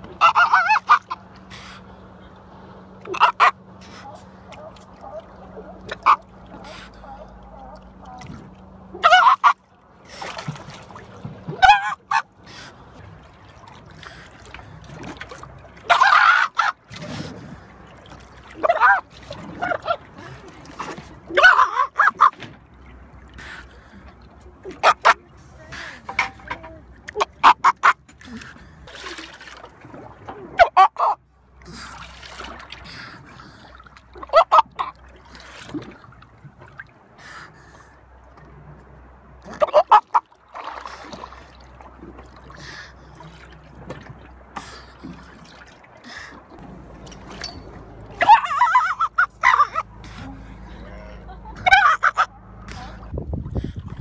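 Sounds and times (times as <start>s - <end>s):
water lapping against a hull: 0.0s - 54.0s.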